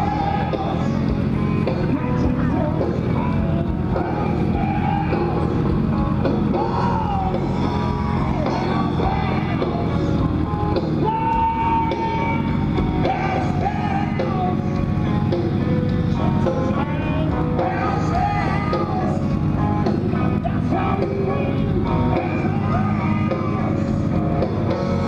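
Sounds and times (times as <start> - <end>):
motorcycle engine running: 0.0 - 25.0
rock music with singer: 0.0 - 25.0.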